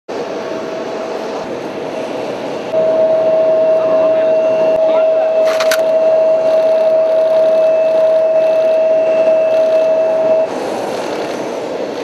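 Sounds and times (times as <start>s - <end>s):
turbine whine and rushing: 0.1s - 12.0s.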